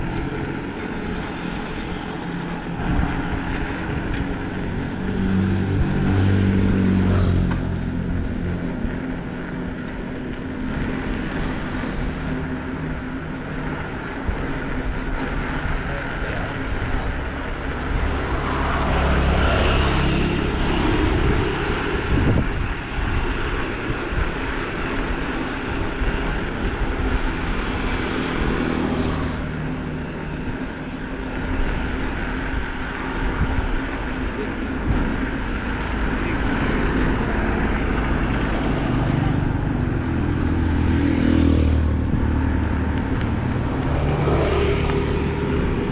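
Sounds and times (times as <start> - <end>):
bicycle tires rolling: 0.0 - 45.9.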